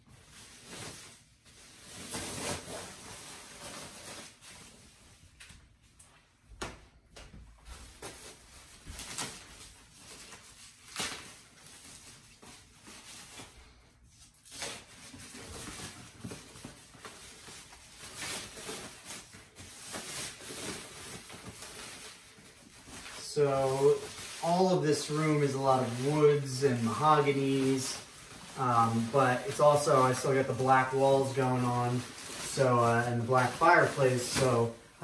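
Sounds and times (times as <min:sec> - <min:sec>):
packing wrap rustling: 0:00.0 - 0:05.6, 0:07.7 - 0:35.0.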